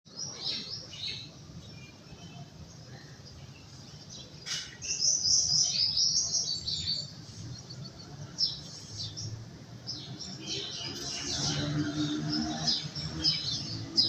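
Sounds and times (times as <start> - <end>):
songbird chirping: 0.1 - 14.0.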